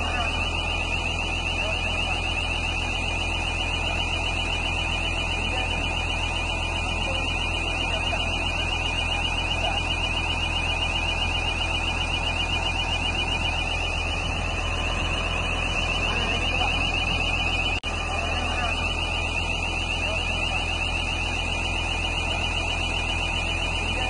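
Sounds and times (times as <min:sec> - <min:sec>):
diesel engine hum: 0:00.0 - 0:24.0
rapid warbling alarm tone: 0:00.0 - 0:24.0.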